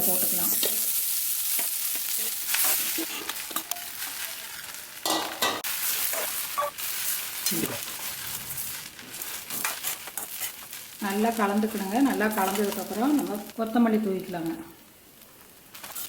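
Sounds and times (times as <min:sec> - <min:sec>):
food sizzling in pan: 0:00.0 - 0:16.0.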